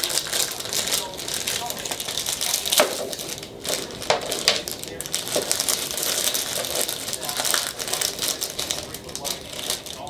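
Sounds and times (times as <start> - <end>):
packaging crinkling and crackling: 0.0 - 10.0.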